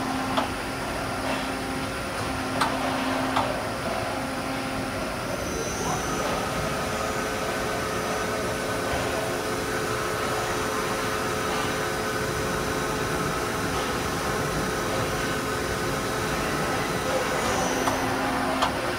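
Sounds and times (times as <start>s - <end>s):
machine hum with whining tones: 0.0s - 18.9s.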